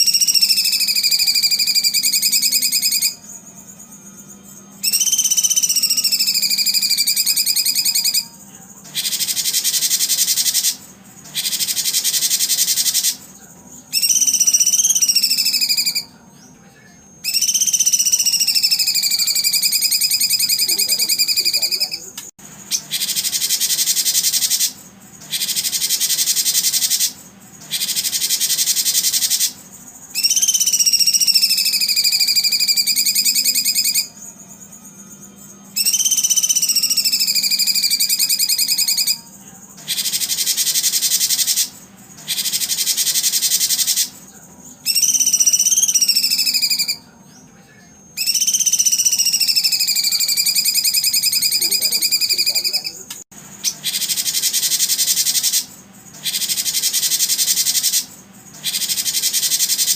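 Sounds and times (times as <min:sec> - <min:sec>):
songbird trilling: 0:00.0 - 0:03.3, 0:04.8 - 0:08.3, 0:08.9 - 0:13.3, 0:13.9 - 0:16.1, 0:17.2 - 0:34.2, 0:35.8 - 0:44.2, 0:44.8 - 0:47.0, 0:48.2 - 0:59.9.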